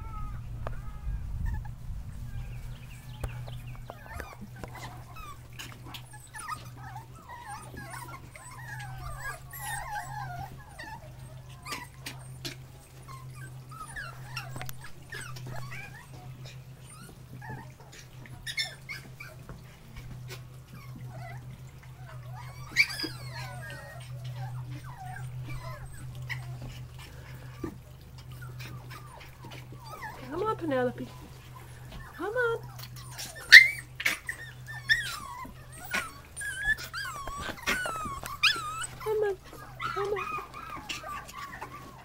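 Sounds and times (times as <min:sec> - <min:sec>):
puppies whining: 0:00.0 - 0:42.0
steady low hum: 0:00.0 - 0:42.0.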